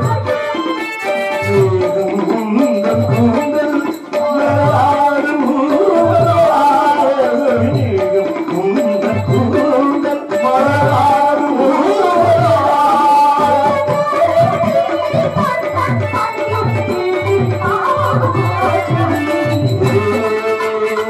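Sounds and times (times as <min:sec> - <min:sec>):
person singing into microphone: 0:00.0 - 0:21.0
tabla: 0:00.0 - 0:21.0.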